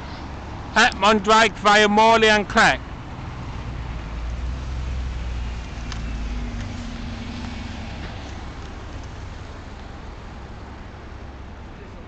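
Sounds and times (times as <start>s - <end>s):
bus engine pulling away: 0.0s - 12.0s.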